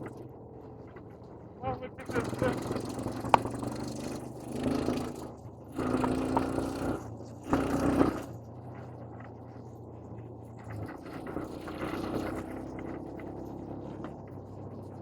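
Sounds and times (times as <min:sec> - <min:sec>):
engine humming and revving: 0:00.0 - 0:15.0.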